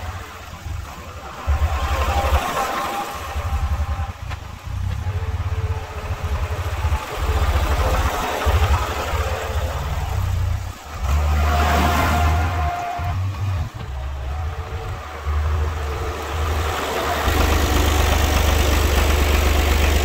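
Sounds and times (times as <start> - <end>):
tractor engine rumbling: 0.0 - 20.0.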